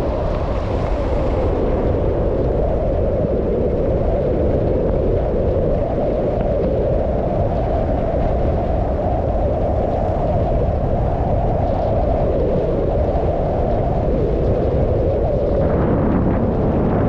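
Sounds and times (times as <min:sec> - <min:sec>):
low rumble: 0:00.0 - 0:17.0
wind on microphone: 0:00.0 - 0:17.0.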